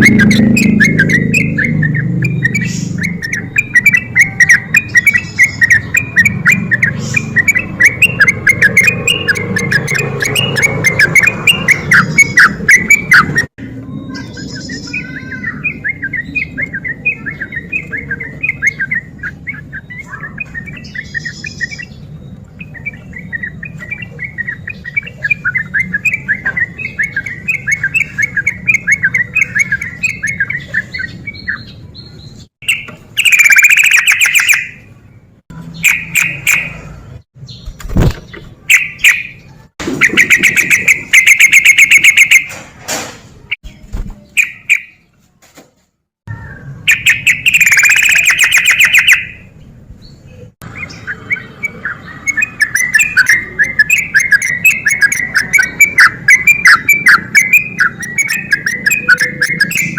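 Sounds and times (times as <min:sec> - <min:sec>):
bird chattering chirps and trills: 0:00.0 - 0:42.6, 0:43.4 - 0:45.1, 0:46.3 - 0:59.9.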